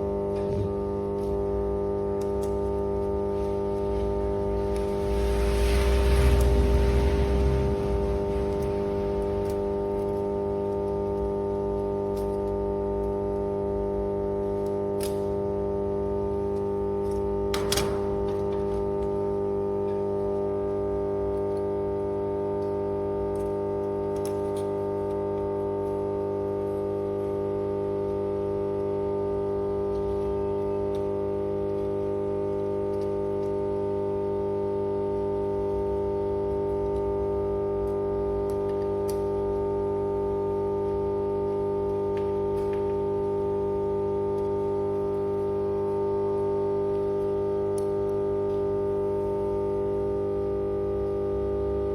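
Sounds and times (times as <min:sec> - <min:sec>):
power transformer humming: 0:00.0 - 0:51.9.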